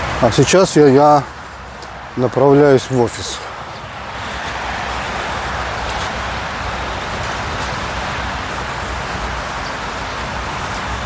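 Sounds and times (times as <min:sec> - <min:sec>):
street traffic hiss: 0:00.0 - 0:11.0.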